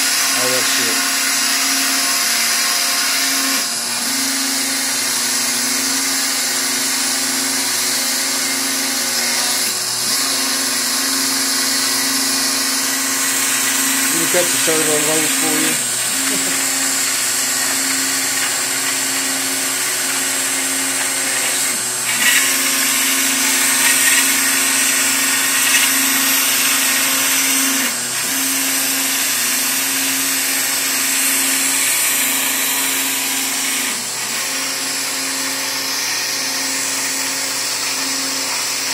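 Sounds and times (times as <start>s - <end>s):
machine spindle cutting foam: 0.0s - 38.9s.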